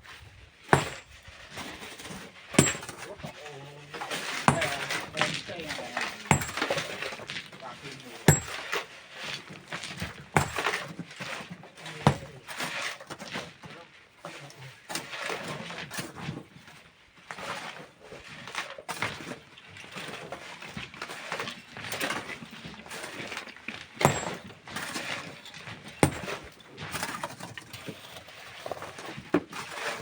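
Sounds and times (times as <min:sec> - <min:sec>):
tools scraping sand and rock: 0:00.1 - 0:30.0.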